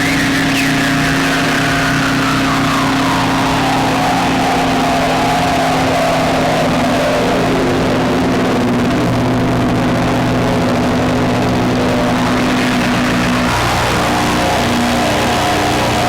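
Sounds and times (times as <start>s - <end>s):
hissy noise wash: 0.0s - 16.0s
sustained low synth tones: 0.0s - 16.0s.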